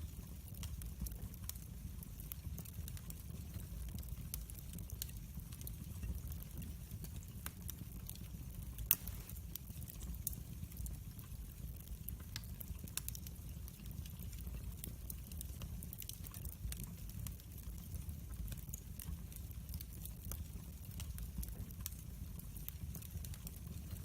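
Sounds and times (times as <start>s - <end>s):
fire low rumble: 0.0s - 24.0s
wood fire crackles and pops: 0.0s - 24.0s.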